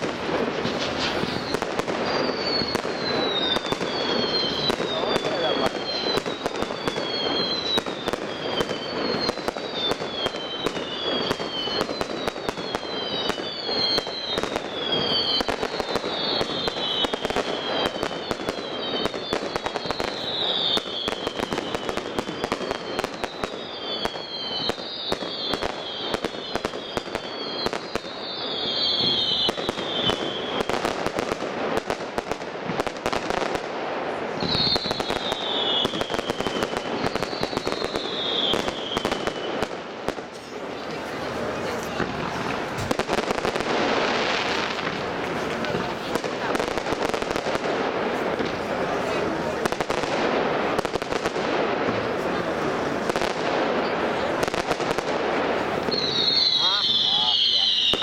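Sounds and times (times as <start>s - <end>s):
fireworks bangs and crackles: 0.0s - 58.0s
fireworks falling whistles: 0.0s - 58.0s.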